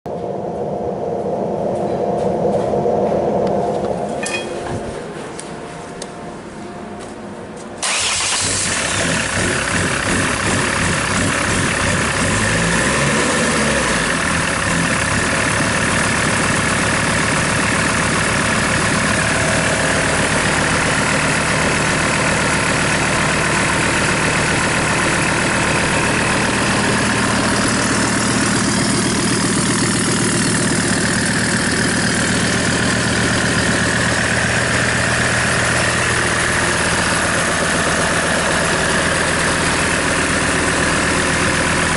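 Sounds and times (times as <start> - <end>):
diesel engine starting and idling: 7.8 - 41.9.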